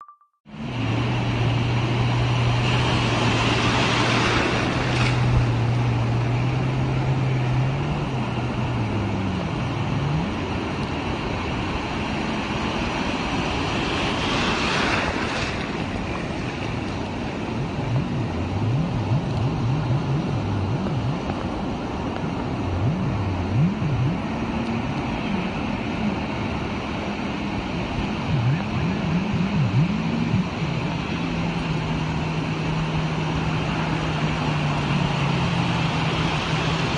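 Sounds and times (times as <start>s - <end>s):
rush of wind and water: 0.0s - 36.9s
jet ski engine revving: 0.6s - 36.9s.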